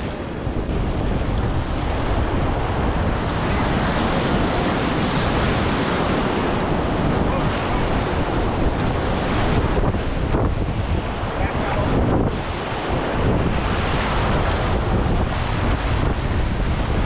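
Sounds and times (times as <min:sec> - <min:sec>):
whitewater rapids rushing: 0:00.0 - 0:17.0
wind noise on microphone: 0:00.0 - 0:17.0.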